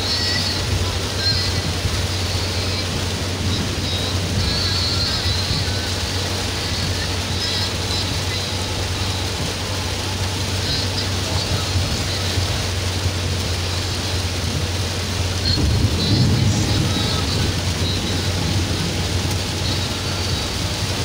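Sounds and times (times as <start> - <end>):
engine drone: 0.0 - 21.0
heavy rain on car roof: 0.0 - 21.0
tyres on wet road: 0.0 - 21.0.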